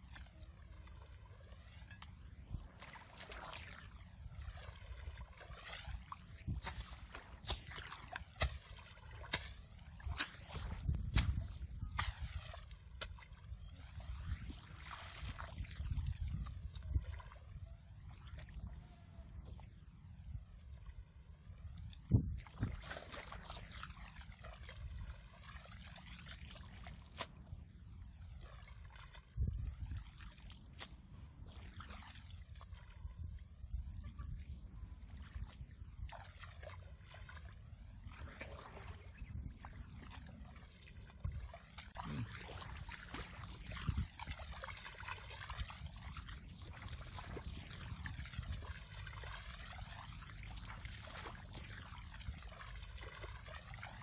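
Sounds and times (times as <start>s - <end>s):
muddy water splashing: 0.0s - 54.0s.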